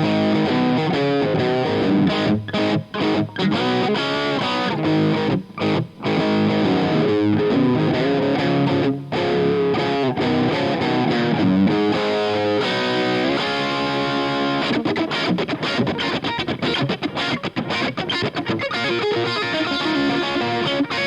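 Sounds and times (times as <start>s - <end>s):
electric guitar riff: 0.0s - 21.0s.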